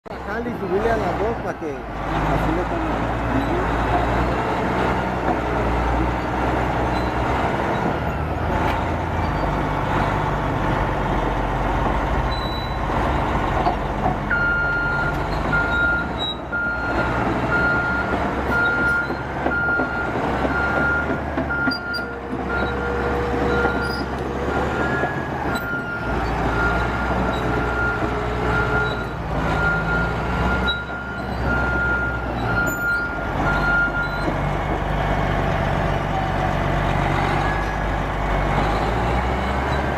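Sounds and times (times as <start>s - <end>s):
bulldozer diesel engine running: 0.1s - 39.9s.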